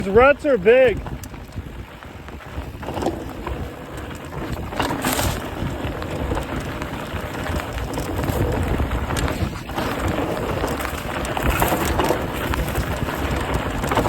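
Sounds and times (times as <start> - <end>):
vehicle rumbling over ruts: 0.0 - 14.0
wind buffeting microphone: 0.0 - 14.0.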